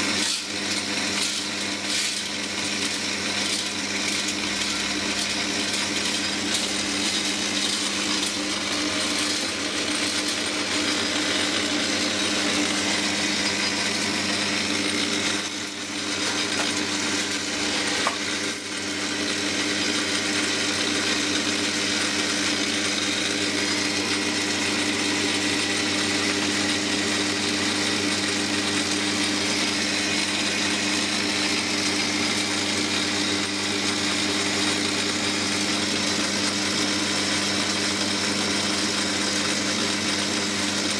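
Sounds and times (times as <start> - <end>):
metal lathe running: 0.0 - 40.9.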